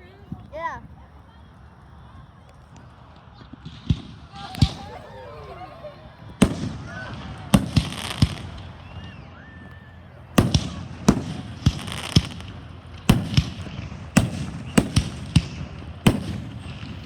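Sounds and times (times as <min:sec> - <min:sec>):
fireworks crackling: 0:00.0 - 0:17.0
fireworks bangs: 0:02.7 - 0:17.0.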